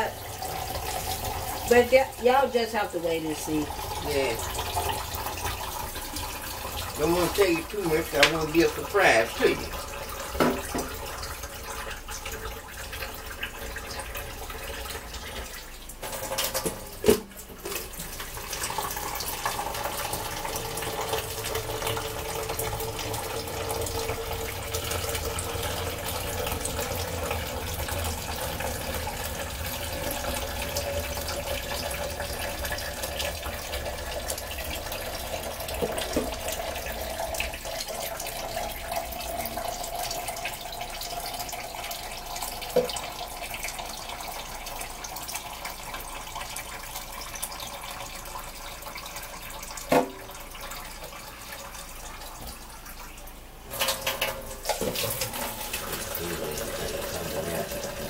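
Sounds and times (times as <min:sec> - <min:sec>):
faucet water splashing into sink: 0:00.0 - 0:58.0.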